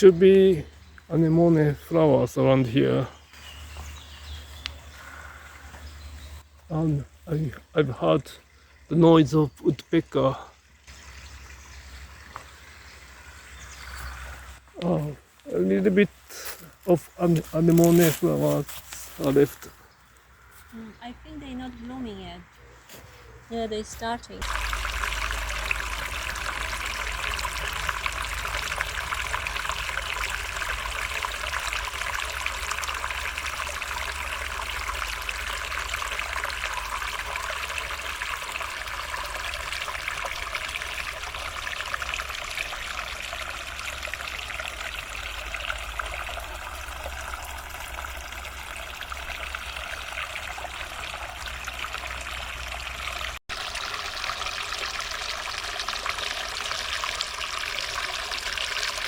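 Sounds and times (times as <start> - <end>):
forest stream trickling: 0.0 - 59.0.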